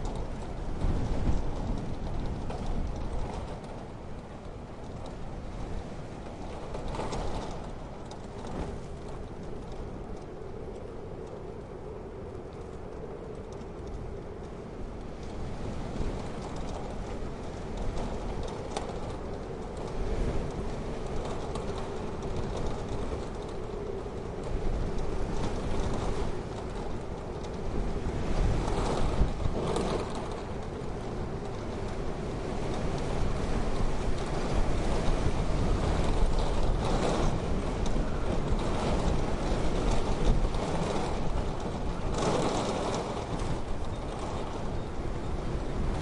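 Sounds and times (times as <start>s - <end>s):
snowstorm wind gusting: 0.0s - 46.0s.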